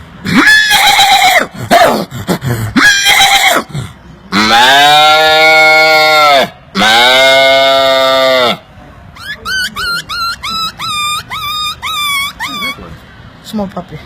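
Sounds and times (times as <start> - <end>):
man imitating animal calls: 0.3 - 8.6, 9.2 - 12.9.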